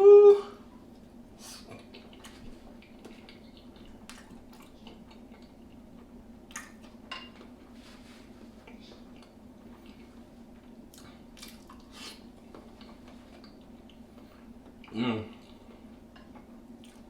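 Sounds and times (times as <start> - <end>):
low steady hum: 0.0 - 17.0
wet eating squishing and smacking: 1.0 - 7.6, 8.3 - 17.0.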